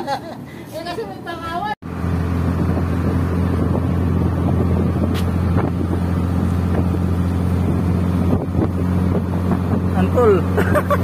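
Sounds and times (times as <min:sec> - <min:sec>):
motorboat engine droning: 0:01.8 - 0:11.0.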